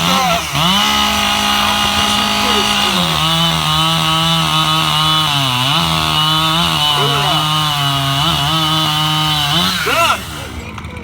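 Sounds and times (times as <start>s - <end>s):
chainsaw cutting through log: 0.0s - 11.0s.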